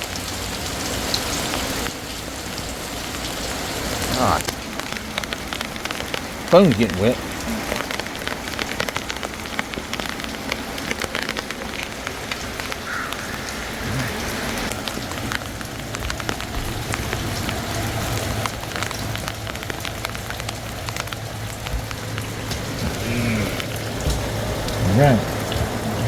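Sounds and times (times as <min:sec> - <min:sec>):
raindrops tapping on phone: 0:00.0 - 0:26.0
steady rain falling: 0:00.0 - 0:26.0.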